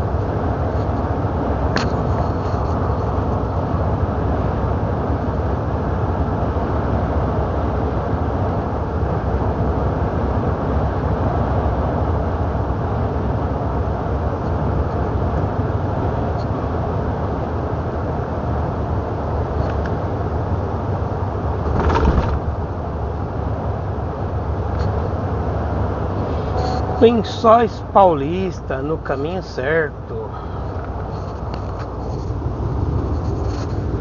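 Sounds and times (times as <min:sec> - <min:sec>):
engine and road noise in truck cab: 0:00.0 - 0:34.0.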